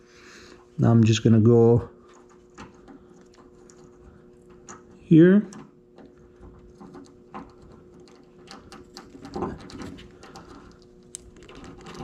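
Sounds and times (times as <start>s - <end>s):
faint steady hum: 0.0s - 12.0s
clicks and rustles of wire connectors: 2.0s - 12.0s.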